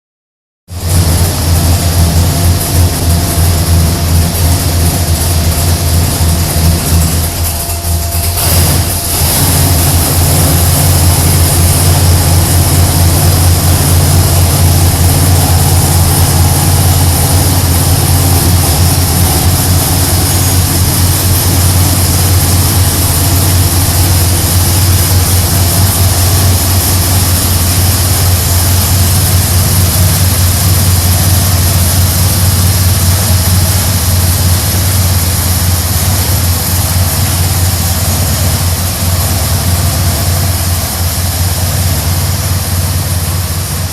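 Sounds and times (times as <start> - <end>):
truck engine idling: 0.7 - 43.9.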